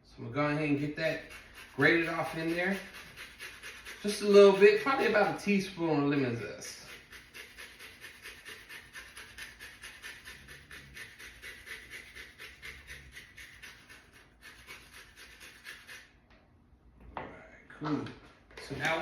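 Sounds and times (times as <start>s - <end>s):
lemon rind rasping on grater: 0.8s - 16.1s.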